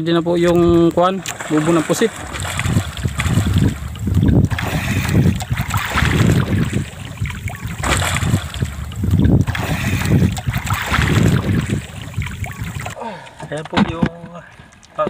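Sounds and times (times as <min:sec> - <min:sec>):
water splashing against boat: 0:00.0 - 0:15.0
wind buffeting microphone: 0:00.2 - 0:13.0.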